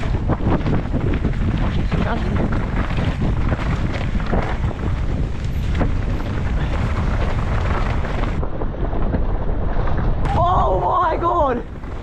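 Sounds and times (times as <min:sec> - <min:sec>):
bike rumbling and rattling: 0:00.0 - 0:12.0
wind buffeting microphone: 0:00.0 - 0:12.0.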